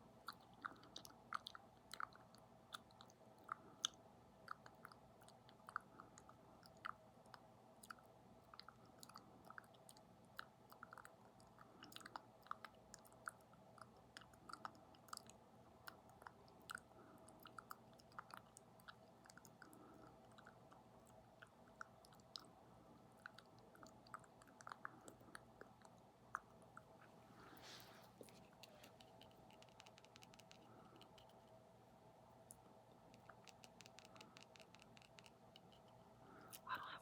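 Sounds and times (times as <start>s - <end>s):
wet lip and tongue clicks: 0.2s - 27.5s, 28.2s - 31.6s, 32.4s - 37.0s.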